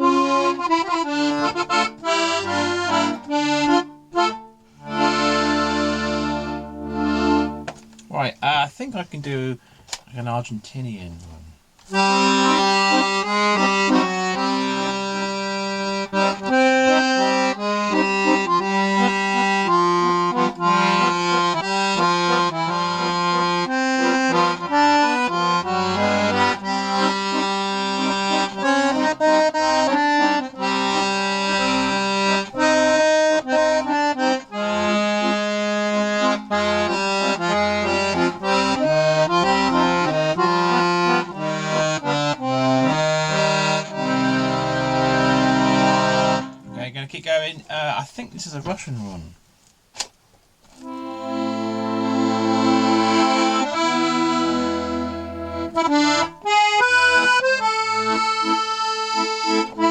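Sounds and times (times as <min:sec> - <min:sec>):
accordion playing solo: 0:00.0 - 0:08.0, 0:11.9 - 0:47.0, 0:50.8 - 0:59.9.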